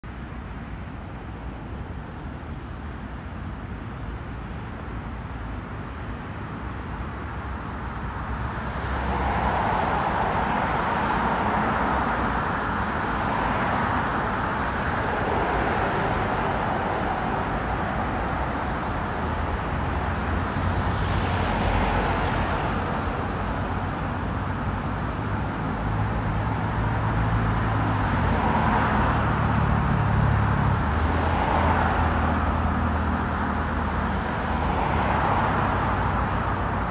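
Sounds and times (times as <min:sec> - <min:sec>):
road traffic hum: 0:00.0 - 0:36.9
vehicles passing by: 0:00.0 - 0:36.9.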